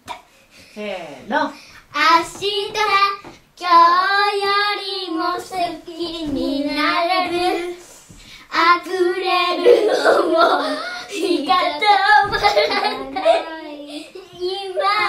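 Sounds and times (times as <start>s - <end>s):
child singing unaccompanied: 1.9s - 15.0s.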